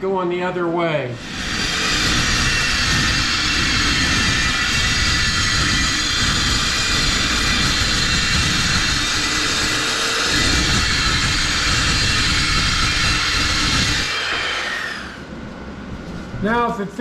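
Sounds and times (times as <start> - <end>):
angle grinder cutting steel: 1.2 - 15.3.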